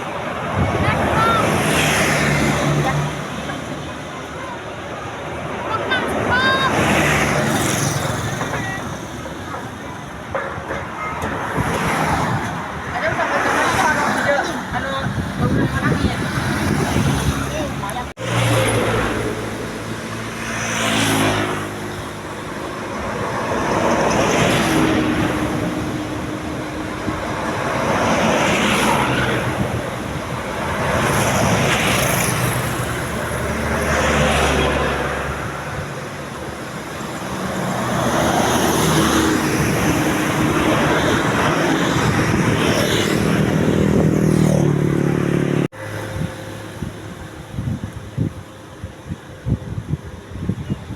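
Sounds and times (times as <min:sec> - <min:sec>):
vehicles passing: 0:00.0 - 0:50.9.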